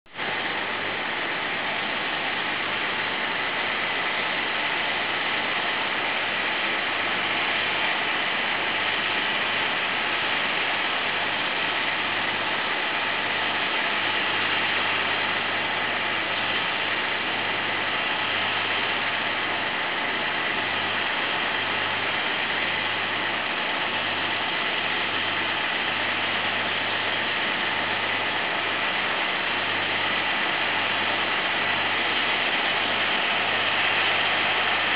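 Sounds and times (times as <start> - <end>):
tractor diesel engine under load: 0.2 - 34.9.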